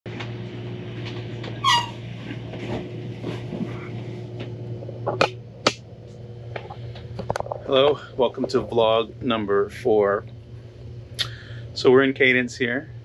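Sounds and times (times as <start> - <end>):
low hum: 0.1 - 13.0.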